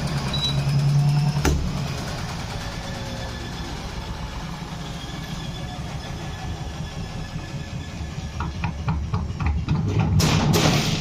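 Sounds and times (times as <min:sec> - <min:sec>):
washing machine low rumble: 0:00.0 - 0:09.8.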